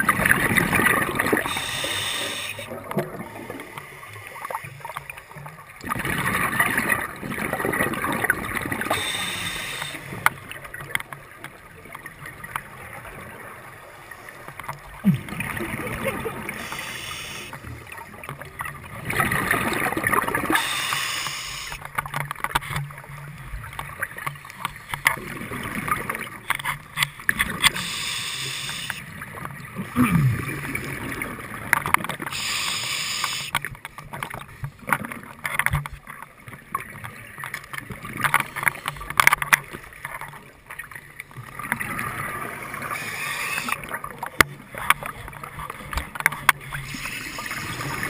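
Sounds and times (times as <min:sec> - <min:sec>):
exhaled bubbles gurgling underwater: 0:00.0 - 0:48.0.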